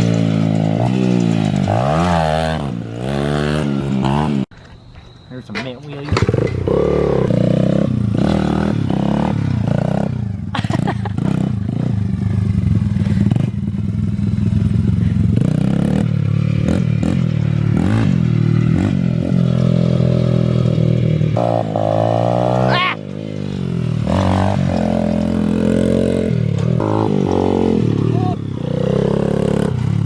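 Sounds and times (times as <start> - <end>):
dirt bike engine revving: 0.0 - 4.5, 6.0 - 30.0.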